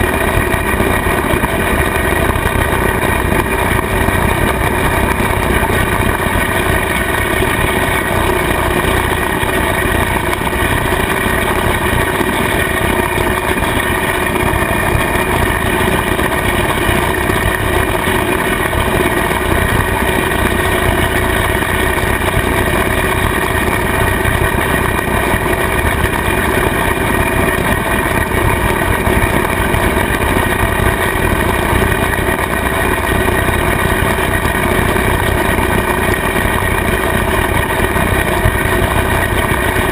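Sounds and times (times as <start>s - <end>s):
rotary mower blades spinning: 0.0s - 39.9s
tractor engine running: 0.0s - 39.9s.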